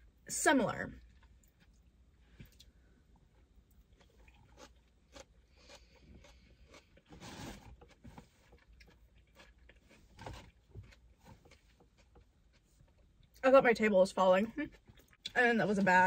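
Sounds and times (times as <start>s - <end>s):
person chewing: 1.0s - 13.4s, 14.6s - 15.4s.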